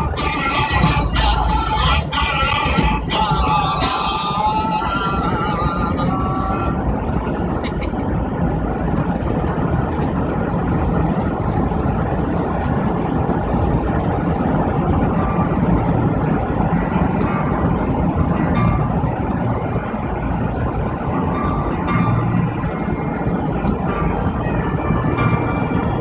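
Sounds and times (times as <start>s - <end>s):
car cabin road noise: 0.0s - 26.0s.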